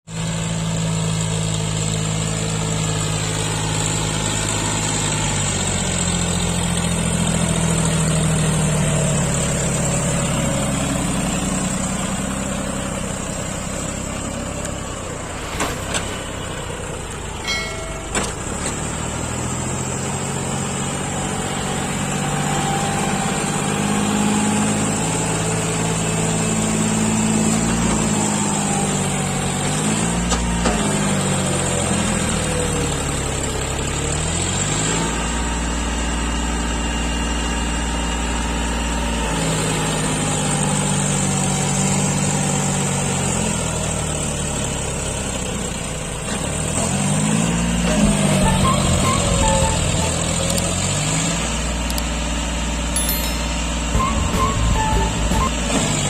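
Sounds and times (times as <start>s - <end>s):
tractor diesel engine running: 0.1s - 56.0s.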